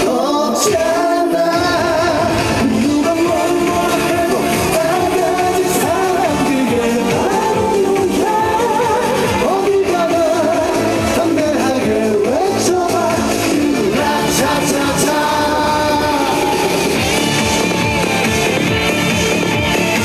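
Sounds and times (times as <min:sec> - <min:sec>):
man singing: 0:00.0 - 0:17.9
backing band playing: 0:00.0 - 0:20.0.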